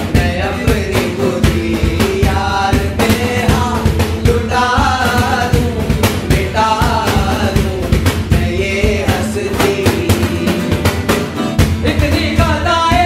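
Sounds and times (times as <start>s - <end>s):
men singing together: 0.0s - 13.0s
steady percussive beat: 0.0s - 13.0s
strummed acoustic guitars: 0.0s - 13.0s.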